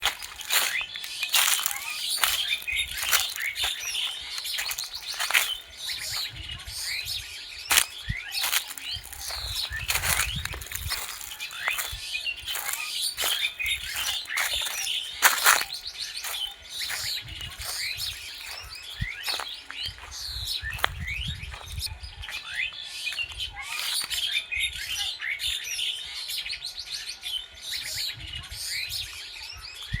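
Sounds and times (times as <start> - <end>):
wild birds chirping: 0.0 - 25.8.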